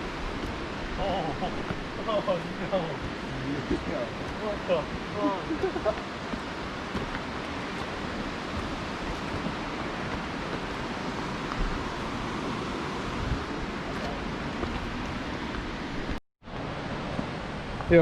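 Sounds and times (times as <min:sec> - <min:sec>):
waterfall rushing: 0:00.0 - 0:18.0
wind rumbling on microphone: 0:00.0 - 0:18.0.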